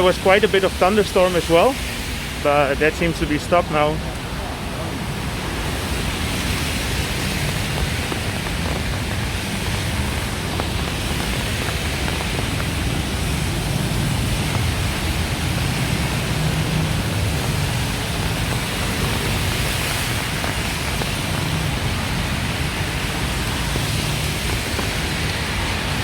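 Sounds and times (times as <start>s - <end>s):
rain on wet street: 0.0s - 26.0s.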